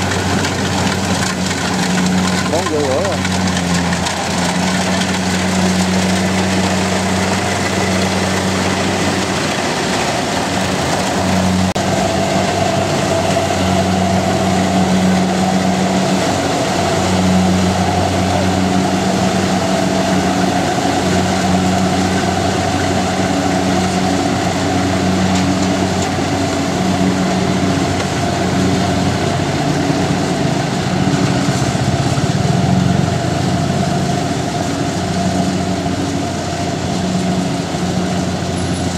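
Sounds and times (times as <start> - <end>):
large engine running: 0.0 - 38.9.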